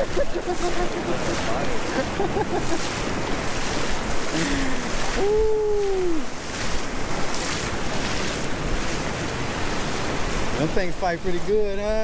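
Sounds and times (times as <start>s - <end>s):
surf waves washing on sand: 0.0s - 12.0s.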